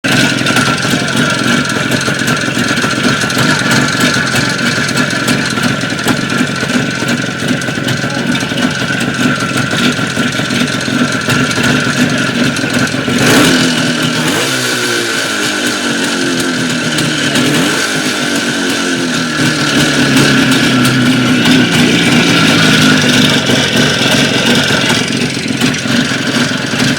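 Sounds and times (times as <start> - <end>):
motorcycle engine running with knock: 0.0 - 26.9.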